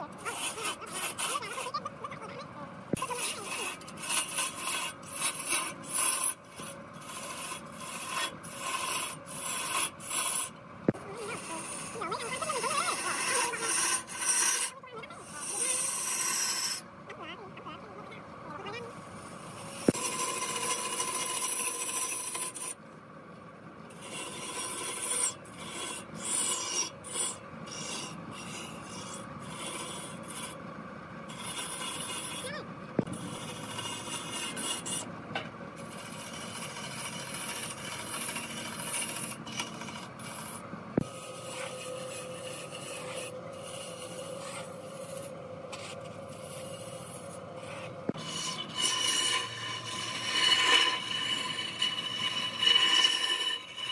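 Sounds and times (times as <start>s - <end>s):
lathe tool scraping wood: 0.0s - 16.9s, 18.6s - 22.8s, 23.9s - 35.1s, 35.7s - 53.9s
steady lathe hum: 0.0s - 53.9s.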